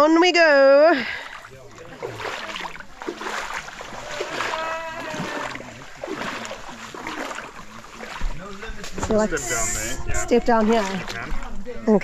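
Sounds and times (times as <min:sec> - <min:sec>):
footsteps splashing through water: 0:01.0 - 0:11.7.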